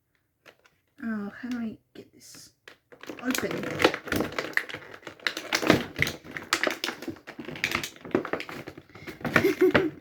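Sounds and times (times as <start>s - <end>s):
plastic packaging clicking and crackling: 0.0s - 10.0s.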